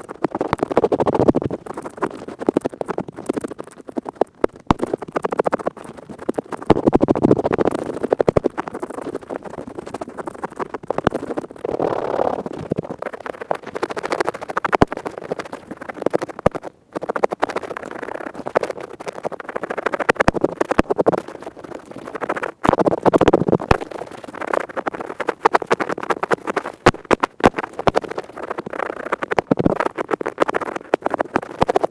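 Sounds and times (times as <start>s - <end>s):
earpick scratching close to microphone: 4.7s - 31.9s.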